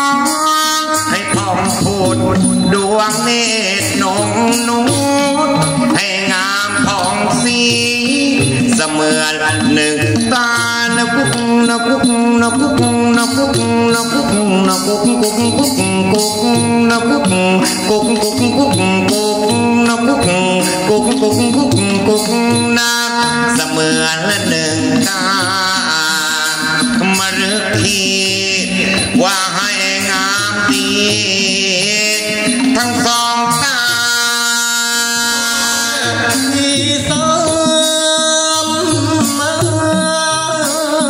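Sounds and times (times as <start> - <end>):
ornamented melody: 0.0 - 41.0
rattling percussion: 0.0 - 41.0.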